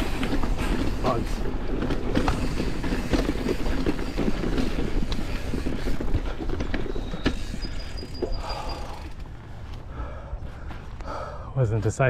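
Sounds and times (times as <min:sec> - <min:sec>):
bike tyres rumbling on dirt: 0:00.0 - 0:11.3.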